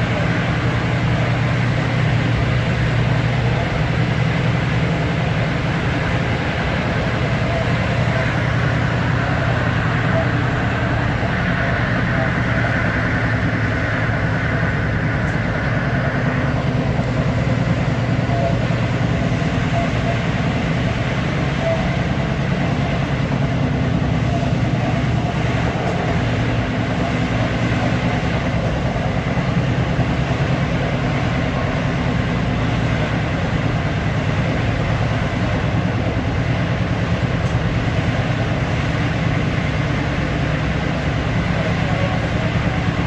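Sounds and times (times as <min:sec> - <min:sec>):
train wheels rumbling: 0:00.0 - 0:43.0.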